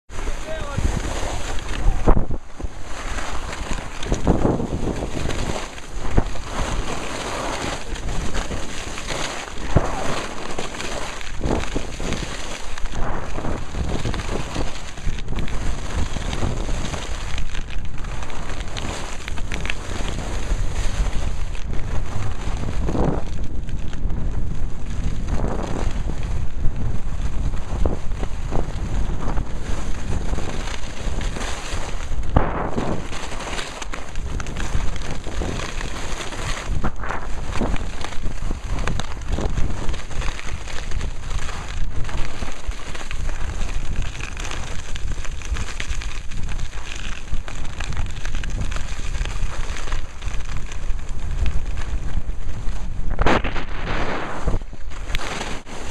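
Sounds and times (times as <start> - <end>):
skis scraping on packed snow: 0.1 - 55.9
wind buffeting the microphone: 0.1 - 55.9.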